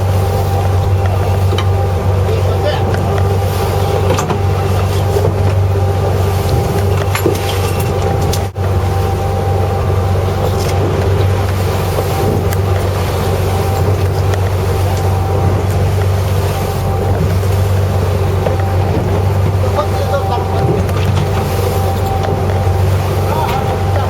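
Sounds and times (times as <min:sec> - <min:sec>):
boat engine humming: 0:00.0 - 0:24.0
water noise: 0:00.0 - 0:24.0
wind: 0:00.0 - 0:24.0.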